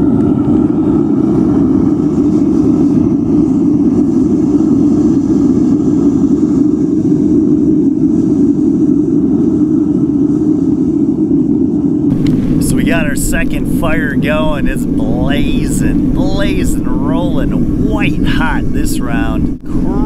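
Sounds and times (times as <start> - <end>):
furnace burner roaring: 0.0 - 20.0.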